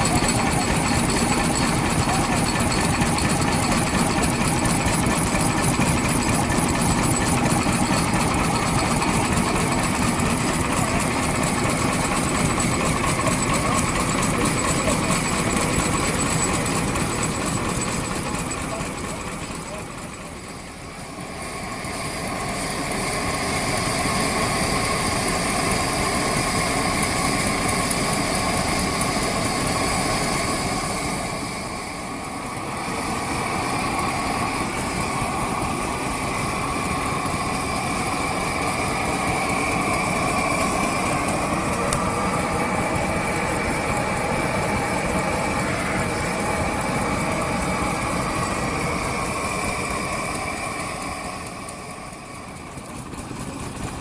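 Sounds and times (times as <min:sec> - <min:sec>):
engines running: 0:00.0 - 0:54.0.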